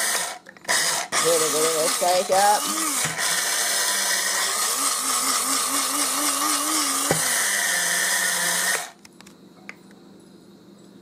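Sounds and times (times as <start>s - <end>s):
coffee grinder whining: 0.0s - 9.0s.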